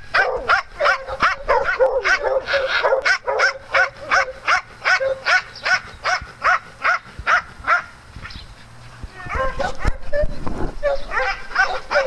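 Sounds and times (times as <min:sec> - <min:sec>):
dog barking: 0:00.1 - 0:07.9, 0:09.3 - 0:10.2, 0:10.8 - 0:12.0.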